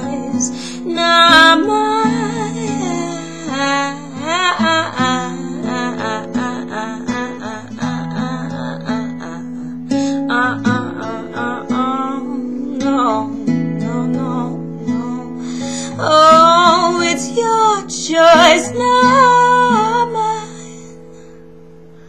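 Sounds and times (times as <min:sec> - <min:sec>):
person singing: 0:00.0 - 0:20.7
acoustic guitar strumming: 0:00.0 - 0:22.0.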